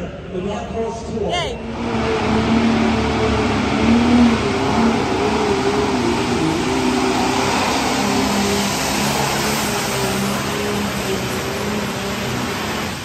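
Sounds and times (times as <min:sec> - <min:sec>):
diesel tractor engine drone: 0:00.0 - 0:13.0.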